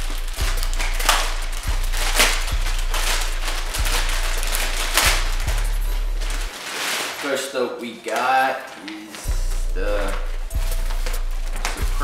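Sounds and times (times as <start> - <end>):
background music with deep bass: 0.0 - 6.5, 7.6 - 12.0
plastic mailer bag tearing: 0.0 - 12.0.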